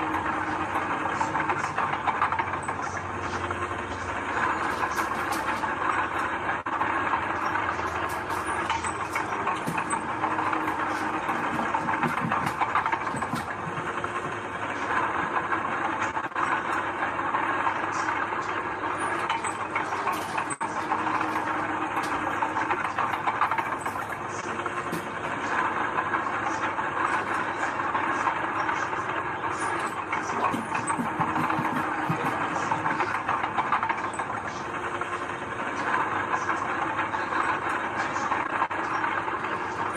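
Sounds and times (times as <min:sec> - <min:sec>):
diesel earthmoving machinery running: 0:00.0 - 0:39.9.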